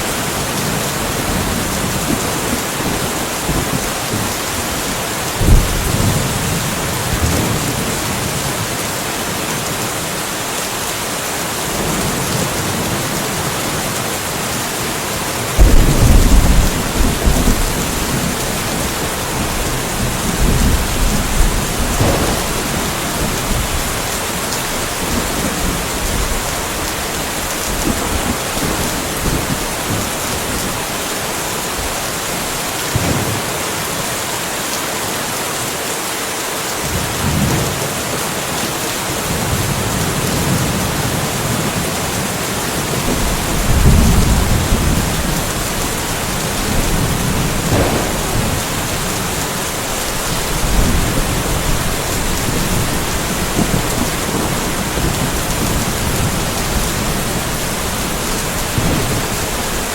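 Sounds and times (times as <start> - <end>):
thunder rumbling: 0.0 - 9.8, 11.7 - 34.0, 39.3 - 59.9
steady rain: 0.0 - 59.9.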